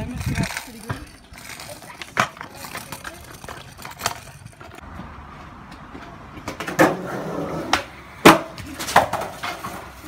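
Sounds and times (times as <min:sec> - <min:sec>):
skateboard wheels rolling on concrete: 0:00.0 - 0:10.0
skateboard clack: 0:00.2 - 0:04.8, 0:05.6 - 0:10.0.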